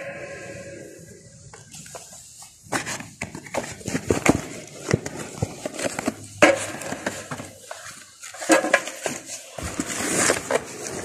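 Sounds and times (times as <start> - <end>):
scraping noises: 0.0 - 11.0
box handled clicking and rustling: 1.6 - 11.0.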